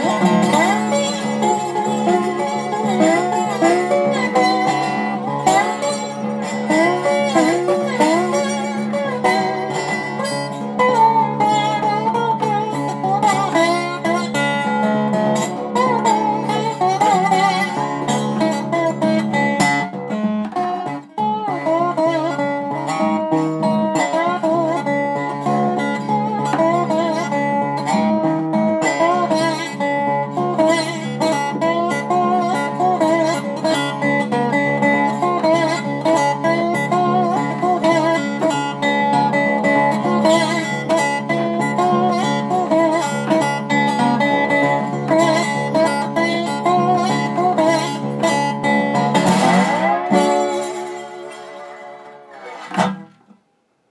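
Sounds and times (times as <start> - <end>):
slide resonator guitar blues: 0.0 - 53.5.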